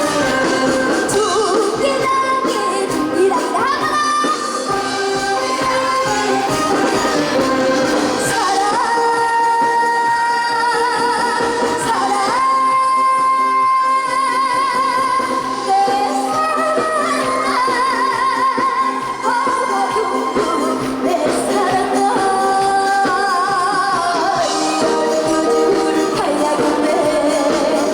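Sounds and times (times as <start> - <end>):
band accompaniment: 0.0 - 27.9
girl singing: 1.2 - 4.8, 8.3 - 27.9.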